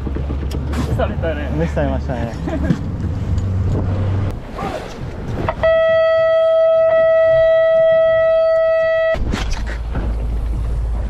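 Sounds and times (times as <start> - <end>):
boat noise: 0.0 - 11.0
wind: 0.0 - 11.0.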